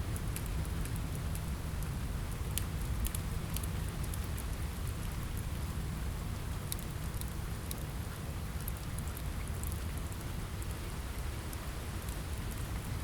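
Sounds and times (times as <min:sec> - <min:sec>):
crackling fireplace: 0:00.0 - 0:13.0
rain against a window: 0:00.0 - 0:13.0.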